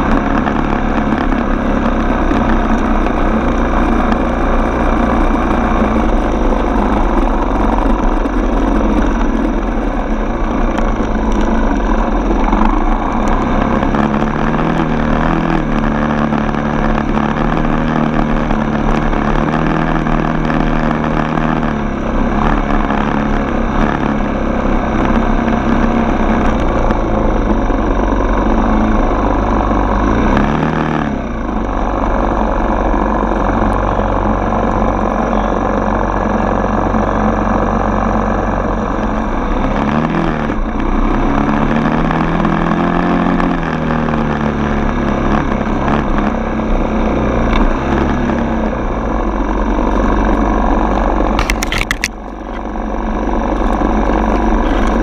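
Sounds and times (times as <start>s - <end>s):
trail bike engine running: 0.0s - 55.0s.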